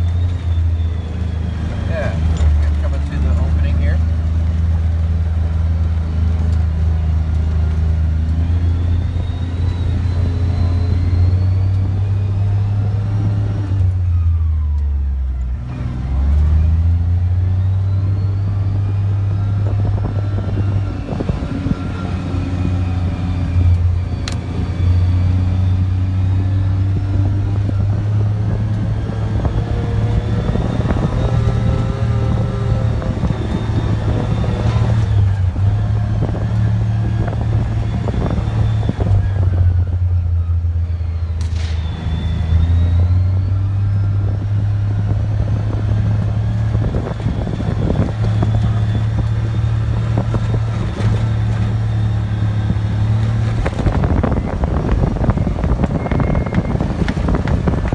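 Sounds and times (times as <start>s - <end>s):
off-road vehicle engine under load: 0.0s - 57.9s.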